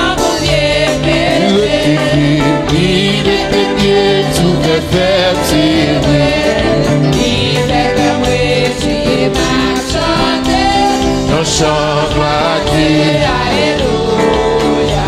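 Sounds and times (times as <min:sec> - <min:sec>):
band playing steady beat: 0:00.0 - 0:15.0
voices singing: 0:00.0 - 0:15.0.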